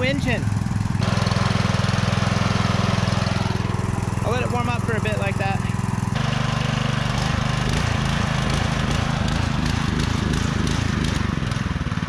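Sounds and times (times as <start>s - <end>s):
exhaust crackle: 0.0s - 12.0s
pressure washer engine surging: 0.0s - 12.0s.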